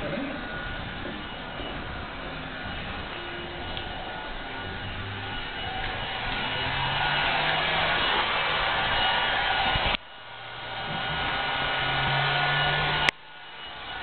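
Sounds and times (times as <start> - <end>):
loud rushing blower noise: 0.0 - 14.0.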